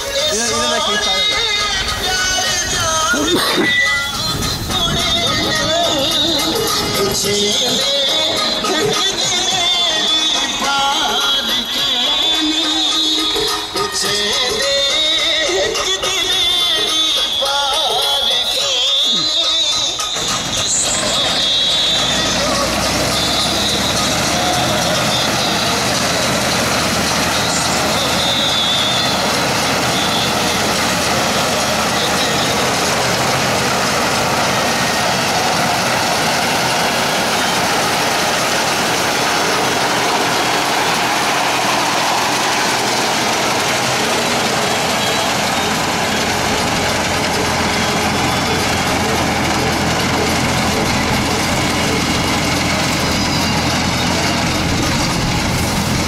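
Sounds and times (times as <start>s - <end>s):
tractor engine running under load: 0.0s - 56.0s.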